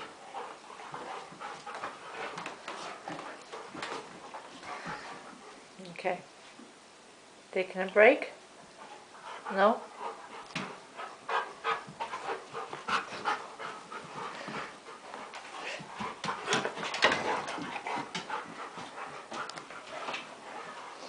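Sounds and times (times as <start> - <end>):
puppies panting: 0.0 - 5.7, 8.8 - 21.0.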